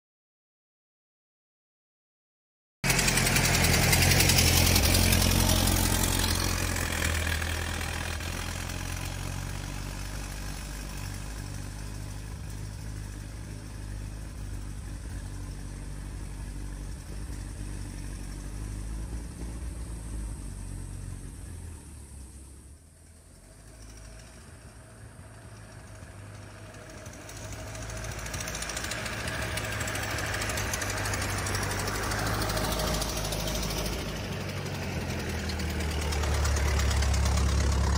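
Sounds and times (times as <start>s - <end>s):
car engine running: 2.8s - 37.9s.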